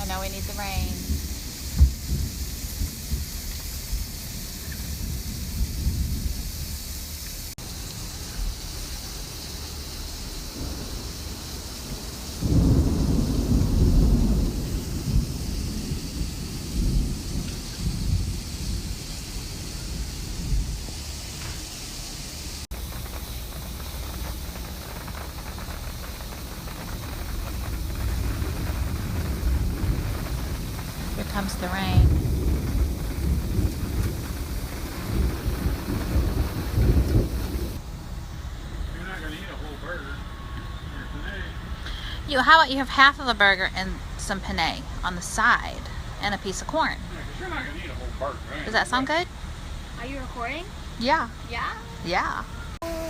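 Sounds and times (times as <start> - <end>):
heavy rain hissing: 0.0 - 53.0
thunder rumbling: 0.0 - 53.0.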